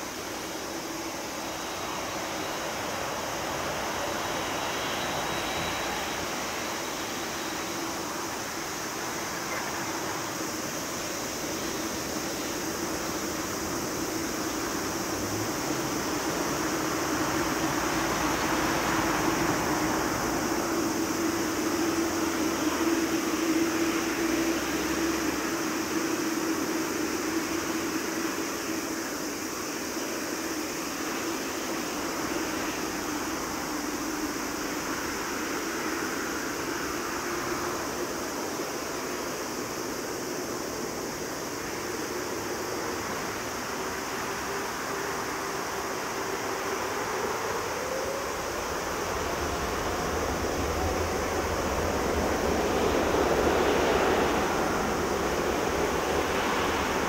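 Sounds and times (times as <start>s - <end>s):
jet engines taxiing: 0.0s - 57.0s.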